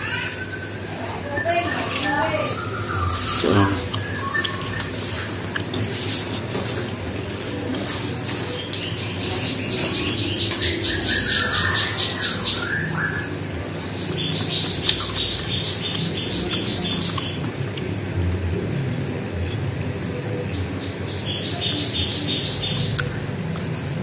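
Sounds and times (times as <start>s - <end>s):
songbird chirping trill: 0.0s - 18.2s, 19.5s - 23.7s.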